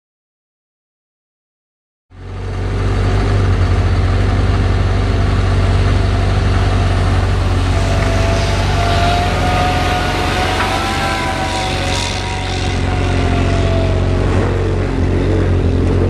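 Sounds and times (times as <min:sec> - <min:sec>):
diesel engine rumbling: 0:02.1 - 0:16.0
faint whine: 0:02.2 - 0:16.0.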